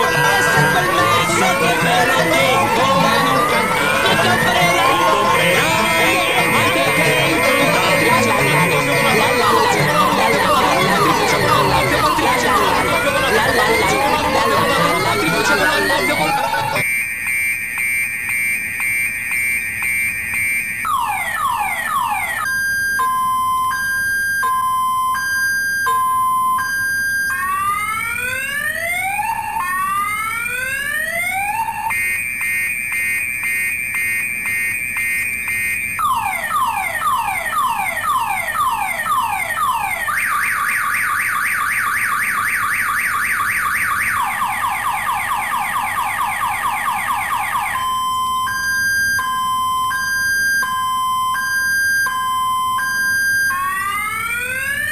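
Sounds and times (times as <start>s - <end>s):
car alarm siren: 0.0s - 54.9s.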